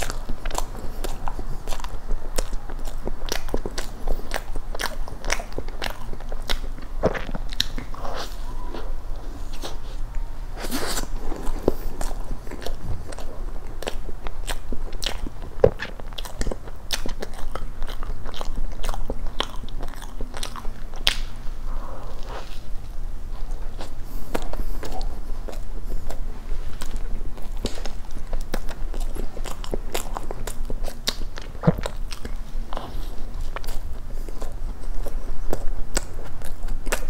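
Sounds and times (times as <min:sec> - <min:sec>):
chewing soft cake: 0:00.0 - 0:37.0.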